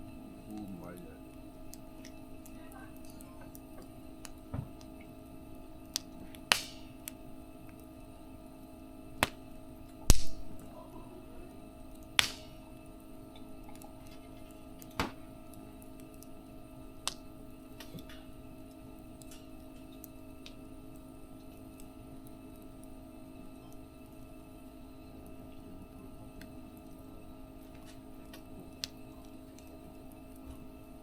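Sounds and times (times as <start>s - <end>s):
faint steady hum: 0.0s - 31.0s
wood fire crackling: 0.0s - 31.0s.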